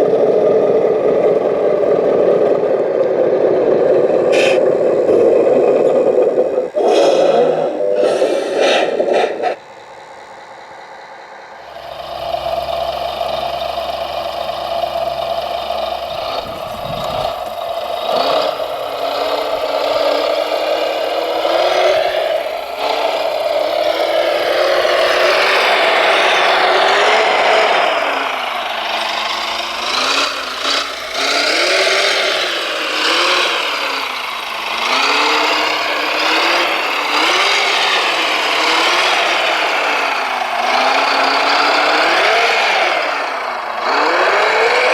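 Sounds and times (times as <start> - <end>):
rough grinding noise: 0.0 - 10.6, 11.2 - 44.9
electric motors whining: 0.0 - 44.9.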